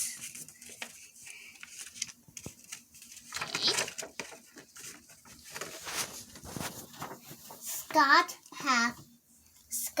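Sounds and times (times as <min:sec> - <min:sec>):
paper rustling: 0:00.0 - 0:08.2.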